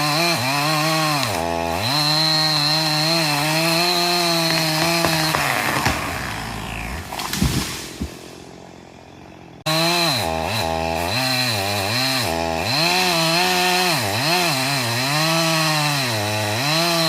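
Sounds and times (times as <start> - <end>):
chainsaw running at high revs: 0.0 - 8.1, 9.6 - 17.0.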